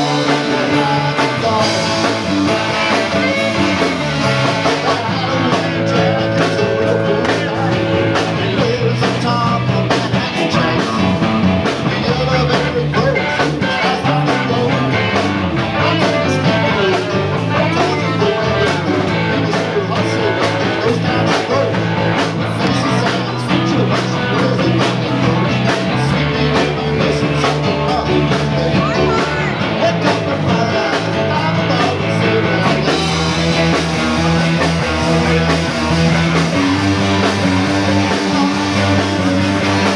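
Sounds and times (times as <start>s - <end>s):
bass guitar: 0.0s - 39.9s
drum beat: 0.0s - 39.9s
electric guitars: 0.0s - 39.9s
man singing: 0.0s - 39.9s.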